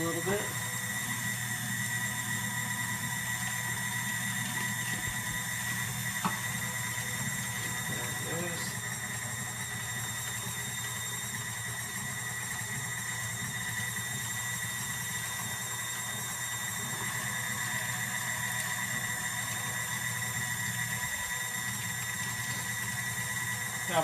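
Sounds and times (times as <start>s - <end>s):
stand mixer motor whine: 0.0s - 24.0s.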